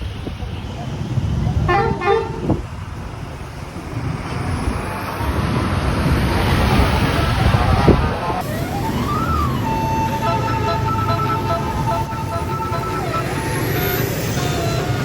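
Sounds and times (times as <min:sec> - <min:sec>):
bus engine and tyre noise: 0:00.0 - 0:15.0
street traffic: 0:00.0 - 0:15.0.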